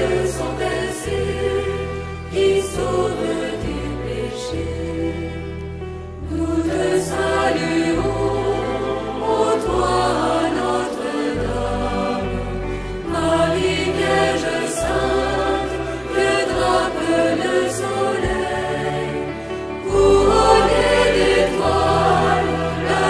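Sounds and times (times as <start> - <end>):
choir singing a hymn: 0.0 - 23.0.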